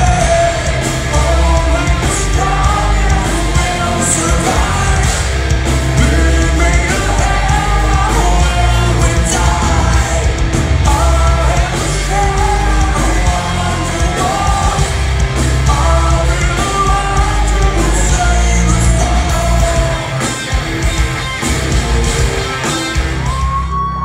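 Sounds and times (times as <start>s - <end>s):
person singing: 0.0s - 20.4s
live rock band playing: 0.0s - 24.0s.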